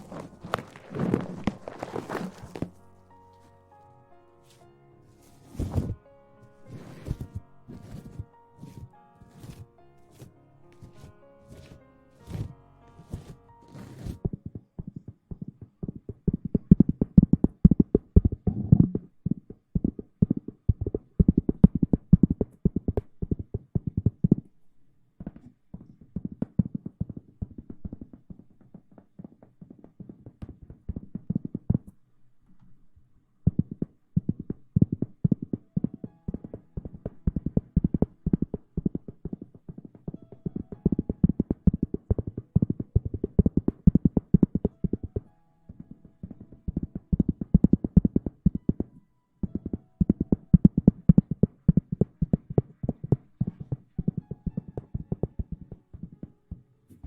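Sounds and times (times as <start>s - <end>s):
fingers scratching on microphone: 0.0s - 2.8s, 4.5s - 6.0s, 6.6s - 24.5s, 33.5s - 57.0s.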